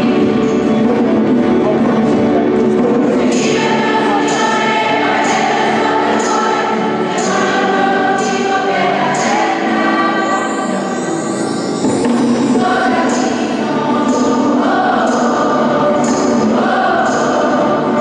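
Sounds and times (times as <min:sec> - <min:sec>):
choir singing sacred music: 0:00.0 - 0:18.0.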